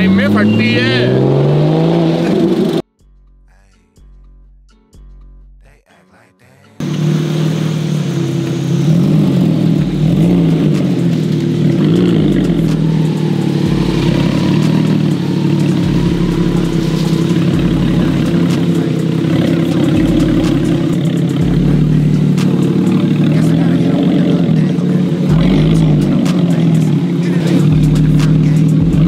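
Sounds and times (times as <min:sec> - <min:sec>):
car engine idling: 0:00.0 - 0:04.4, 0:06.8 - 0:29.0.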